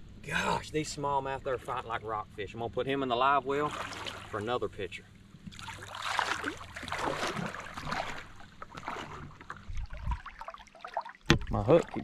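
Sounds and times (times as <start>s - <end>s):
low steady hum: 0.0s - 10.8s
water splashing and sloshing: 0.9s - 2.4s, 3.2s - 12.0s.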